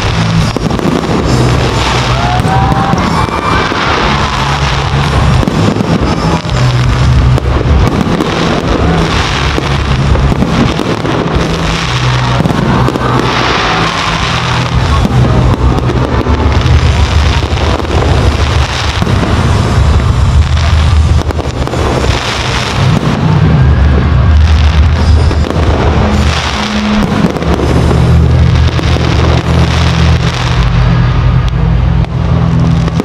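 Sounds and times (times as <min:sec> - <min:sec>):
fireworks bursting and crackling: 0:00.0 - 0:33.0
music with heavy bass: 0:00.0 - 0:33.0.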